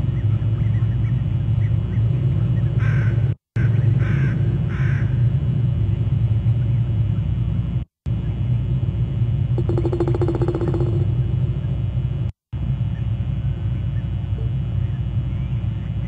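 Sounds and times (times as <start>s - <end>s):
buzzy pulsing rattle: 0.0s - 16.0s
low microphone hum: 0.0s - 16.0s.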